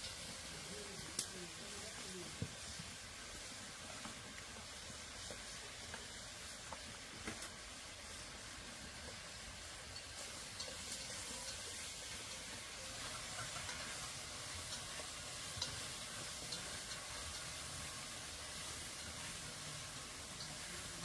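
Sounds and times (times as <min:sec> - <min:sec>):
food sizzling while frying: 0:00.0 - 0:21.0.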